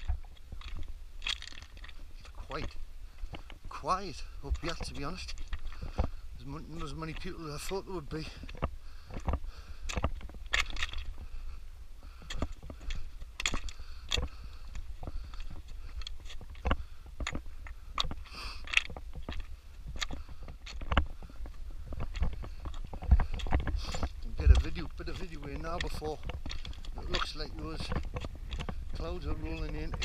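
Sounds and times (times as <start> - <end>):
footsteps crunching on stones: 0.0 - 30.0
wind rumble on microphone: 0.0 - 30.0.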